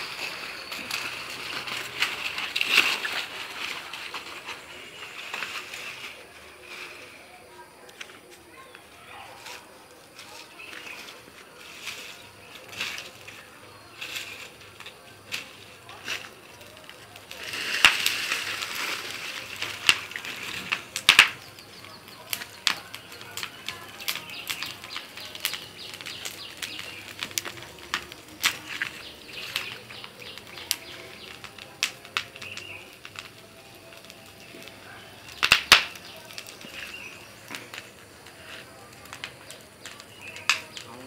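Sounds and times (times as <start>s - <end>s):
fire crackling: 0.0s - 41.0s
fire hissing: 0.0s - 41.0s
fire popping: 0.0s - 41.0s.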